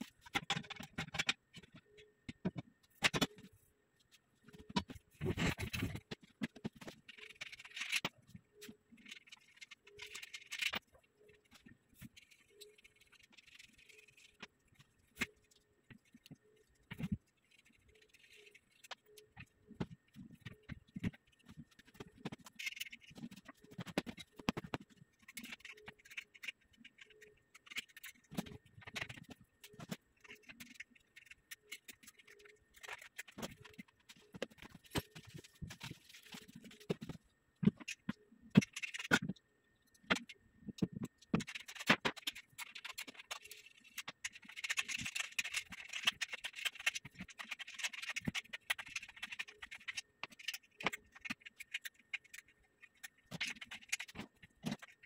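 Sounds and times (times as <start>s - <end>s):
metal parts clicking and knocking: 0.0s - 3.6s, 4.5s - 55.0s.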